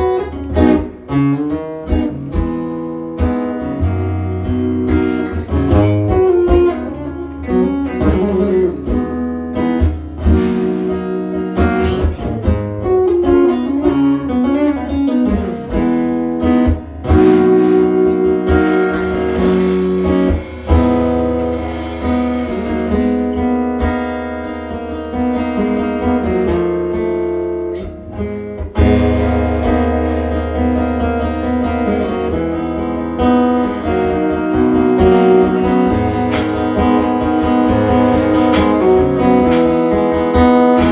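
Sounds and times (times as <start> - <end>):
guitar strumming and picking: 0.0 - 40.9.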